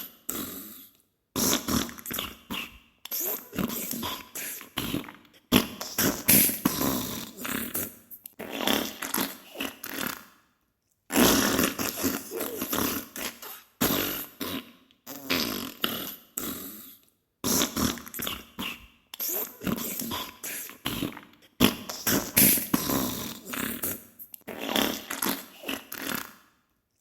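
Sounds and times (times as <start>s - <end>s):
wet sputtering flatulence: 1.4s - 10.4s, 11.1s - 16.6s, 17.4s - 26.5s.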